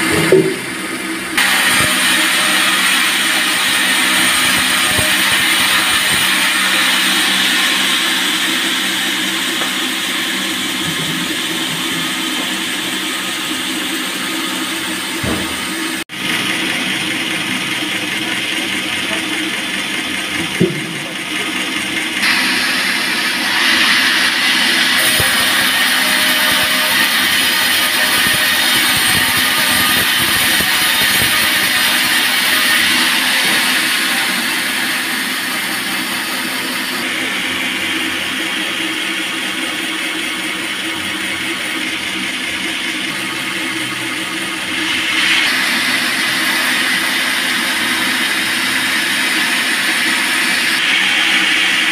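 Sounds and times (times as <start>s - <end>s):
band saw cutting log: 0.0s - 51.9s.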